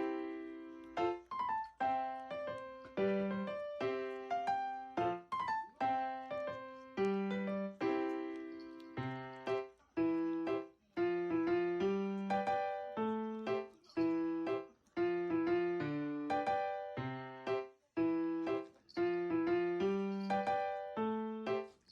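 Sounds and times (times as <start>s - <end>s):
gentle piano melody: 0.0s - 21.9s.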